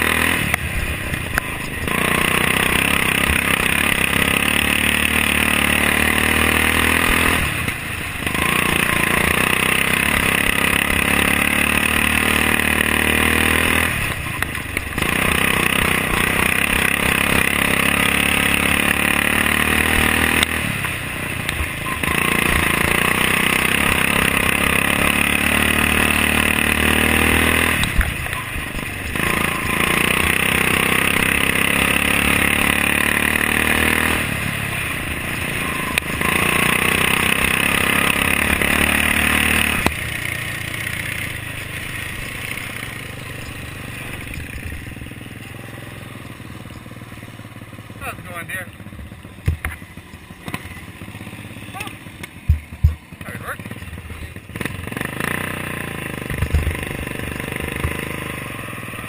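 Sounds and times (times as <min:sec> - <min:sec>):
lawnmower engine revving: 0:00.0 - 0:59.0.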